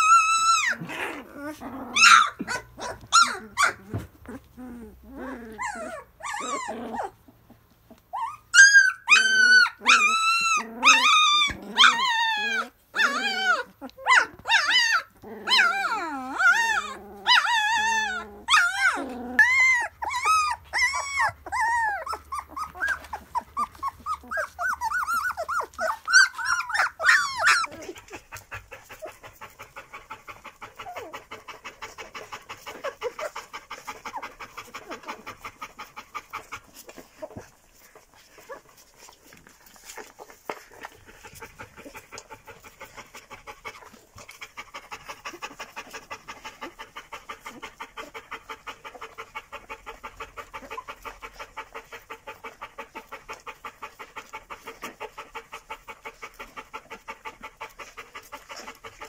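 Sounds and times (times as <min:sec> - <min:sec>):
puppies whining and yelping: 0:00.0 - 0:59.0
puppy panting: 0:00.0 - 0:59.0.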